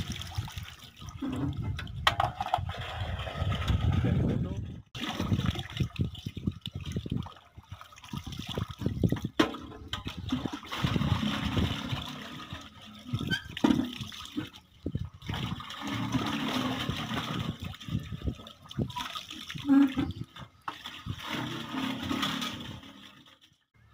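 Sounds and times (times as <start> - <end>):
water gurgling into metal bucket: 0.0 - 4.3, 5.0 - 23.5
water pouring from bucket: 0.0 - 4.3, 5.0 - 23.6.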